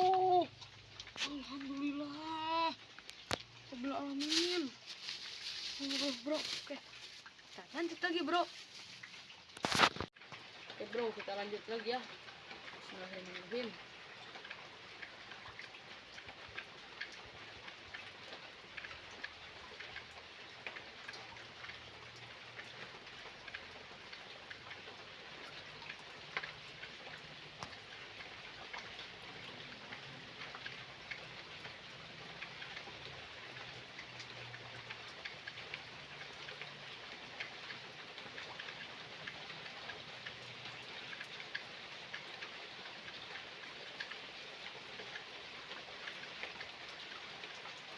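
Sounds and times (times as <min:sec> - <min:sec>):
light rain falling: 0:00.0 - 0:47.9.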